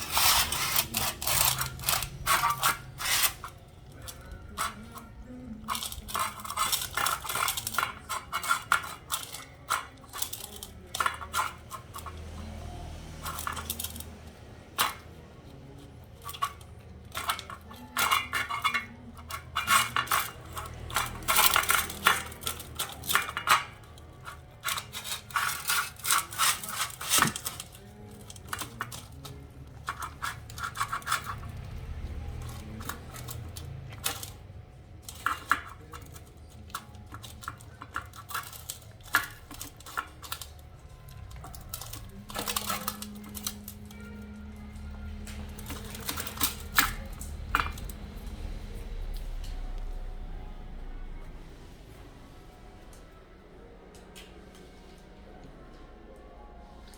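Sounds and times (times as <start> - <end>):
dog crunching and chewing food: 0.0 - 51.1.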